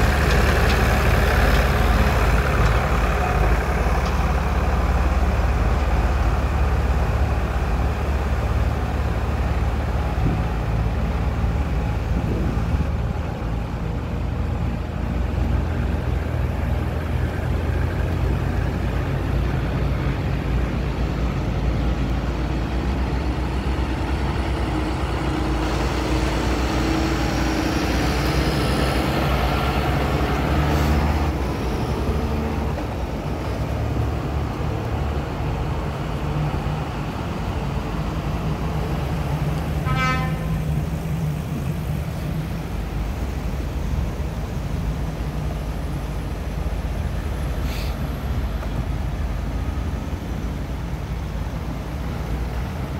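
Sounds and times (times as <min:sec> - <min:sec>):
vehicles driving past: 0:00.0 - 0:52.9.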